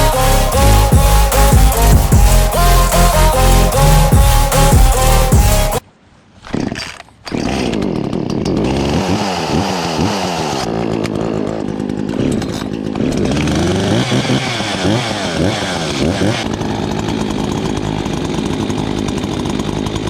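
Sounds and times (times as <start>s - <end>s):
chainsaw revving: 0.0s - 5.7s, 7.3s - 20.0s.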